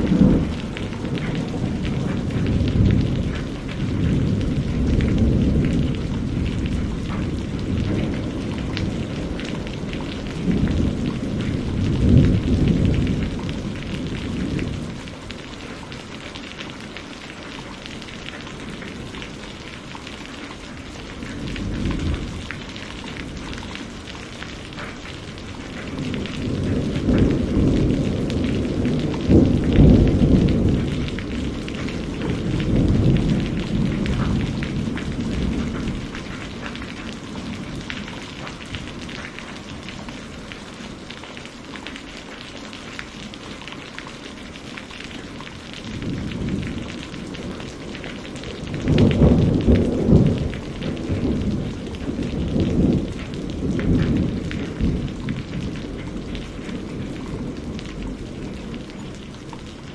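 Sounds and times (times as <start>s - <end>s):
rolling thunder: 0.0s - 15.2s, 20.9s - 40.6s, 45.7s - 59.9s
steady rain: 0.0s - 59.9s.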